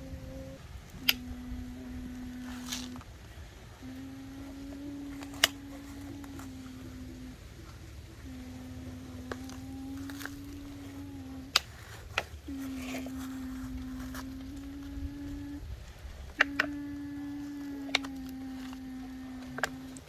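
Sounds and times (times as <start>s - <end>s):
model excavator motor humming: 0.0s - 20.0s.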